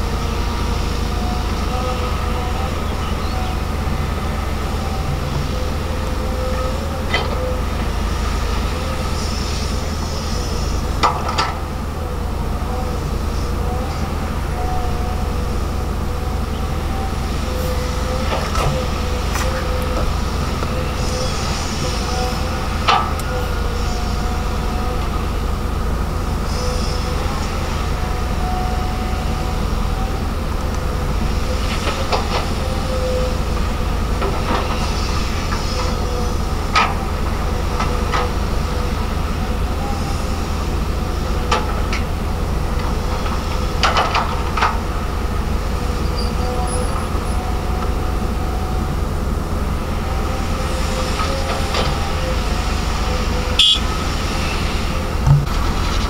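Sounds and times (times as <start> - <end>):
excavator diesel engine running: 0.0 - 56.0
steady whine: 0.0 - 56.0.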